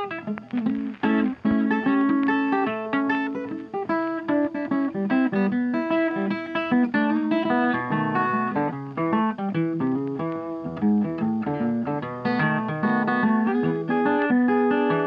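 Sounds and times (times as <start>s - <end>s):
guitar picking notes: 0.0s - 15.0s.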